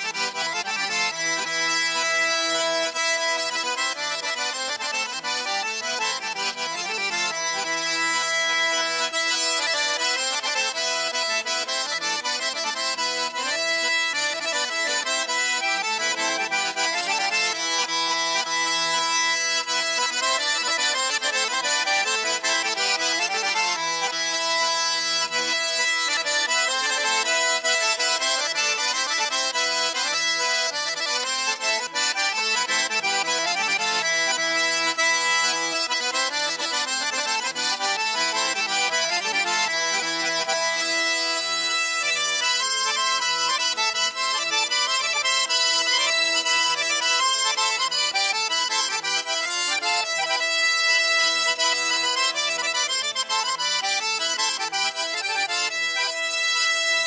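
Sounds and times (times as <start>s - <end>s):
instrumental music with held chords: 0.0s - 57.0s.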